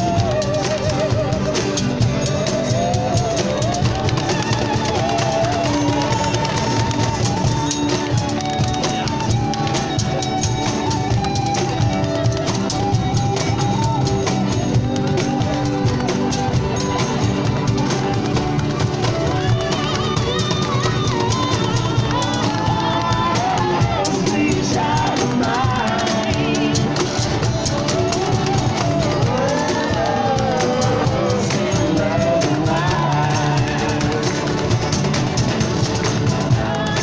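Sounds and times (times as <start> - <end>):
accordion: 0.0 - 37.0
box drum percussion: 0.0 - 37.0
fiddles: 0.0 - 37.0
strummed guitars: 0.0 - 37.0.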